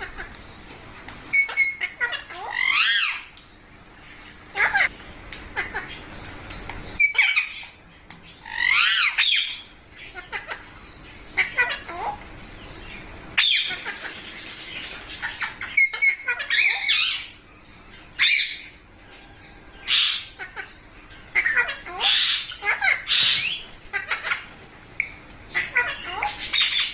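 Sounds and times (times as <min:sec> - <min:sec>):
parrots squawking: 0:00.0 - 0:00.6, 0:01.2 - 0:03.4, 0:04.5 - 0:04.9, 0:05.5 - 0:06.1, 0:06.9 - 0:07.8, 0:08.4 - 0:26.9.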